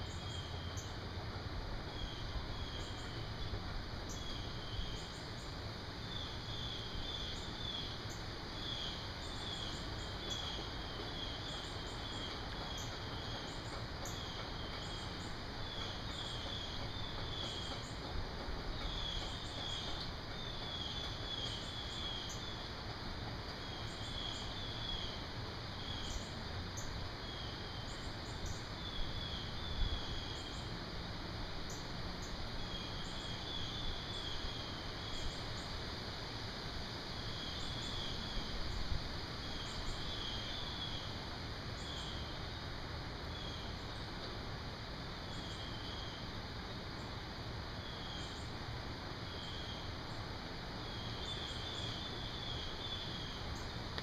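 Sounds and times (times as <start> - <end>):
insects droning: 0.0 - 54.0
outdoor hiss: 0.0 - 54.0.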